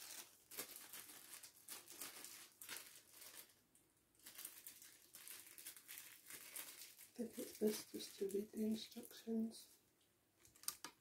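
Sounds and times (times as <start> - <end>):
plastic bag crinkling: 0.0 - 3.6, 4.2 - 9.4.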